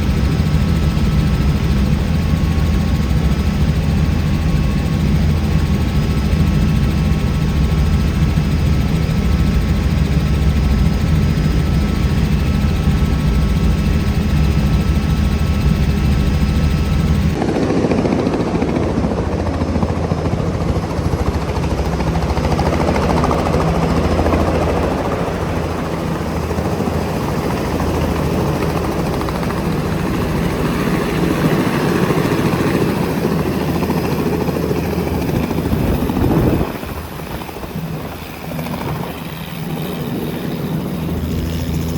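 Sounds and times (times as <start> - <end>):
helicopter running: 0.0 - 41.9.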